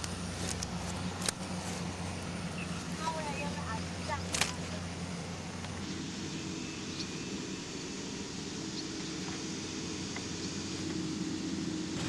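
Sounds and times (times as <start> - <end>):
constant hiss: 0.0 - 12.0
steady low hum: 0.0 - 12.0.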